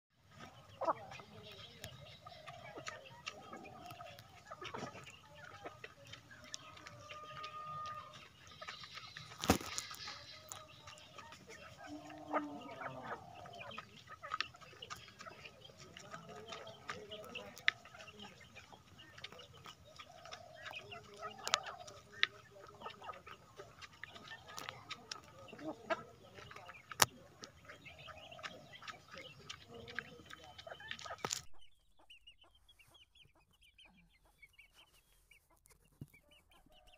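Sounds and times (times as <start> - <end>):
chickens clucking: 0.2 - 36.9
faint background voices: 0.2 - 36.9.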